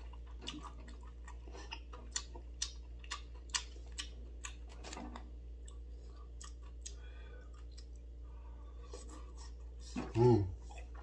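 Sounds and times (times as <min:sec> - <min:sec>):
low steady hum: 0:00.0 - 0:11.0
soft eating sounds: 0:00.0 - 0:11.0.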